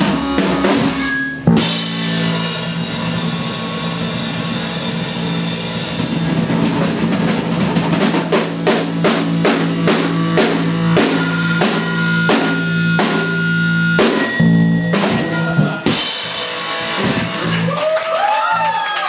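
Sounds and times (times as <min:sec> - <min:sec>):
evenly spaced drum hits: 0:00.0 - 0:17.7
live rock band playing: 0:00.0 - 0:18.7.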